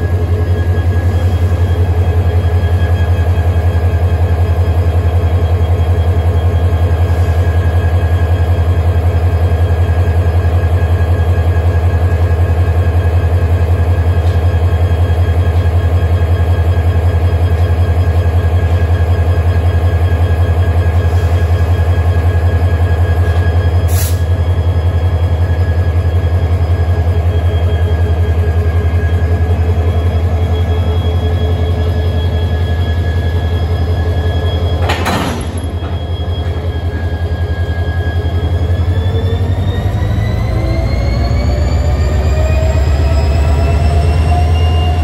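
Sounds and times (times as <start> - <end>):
locomotive diesel engine running: 0.0 - 45.0.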